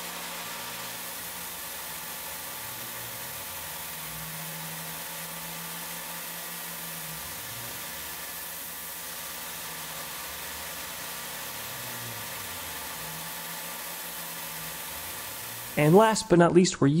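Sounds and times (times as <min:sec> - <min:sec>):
milling cutter hissing: 0:00.0 - 0:16.2
machine hum: 0:00.0 - 0:16.3.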